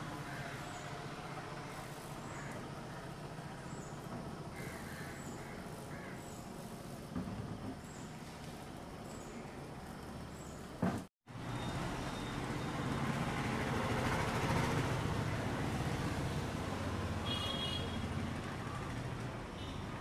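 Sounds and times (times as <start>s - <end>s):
vehicle engine and tyre rumble: 0.0s - 20.0s.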